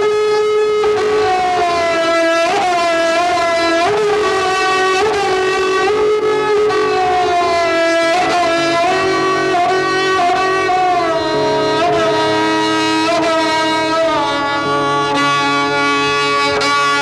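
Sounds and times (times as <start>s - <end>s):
sarangi slow melody: 0.0s - 17.0s
steady drone: 0.0s - 17.0s.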